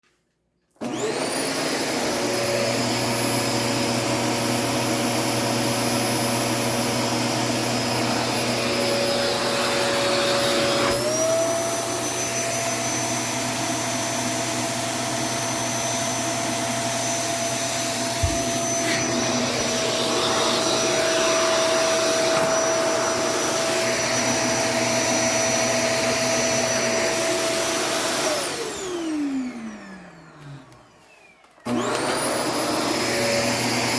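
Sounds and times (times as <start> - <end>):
vacuum cleaner motor whine: 0.8 - 33.9.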